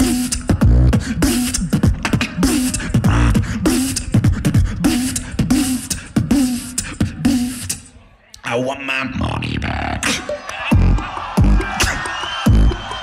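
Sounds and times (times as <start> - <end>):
beatboxing through microphone: 0.0 - 13.0.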